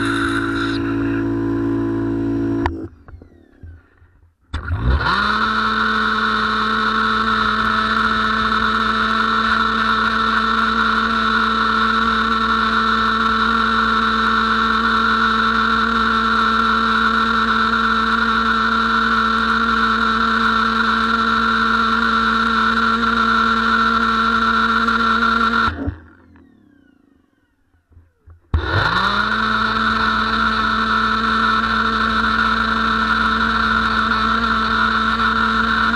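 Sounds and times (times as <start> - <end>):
pressure washer motor whining: 0.0 - 35.9.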